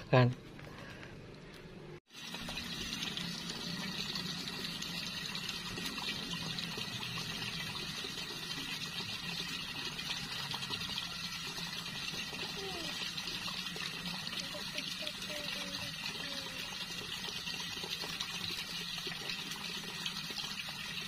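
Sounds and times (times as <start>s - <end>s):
shallow running water trickling: 2.1s - 21.0s.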